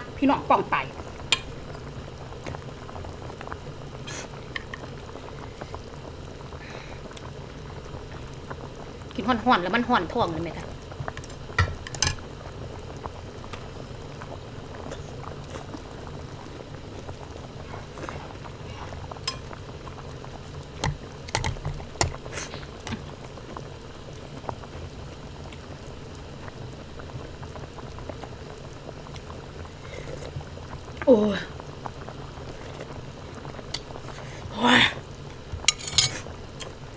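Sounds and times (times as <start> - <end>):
broth bubbling in a pot: 0.0 - 36.9.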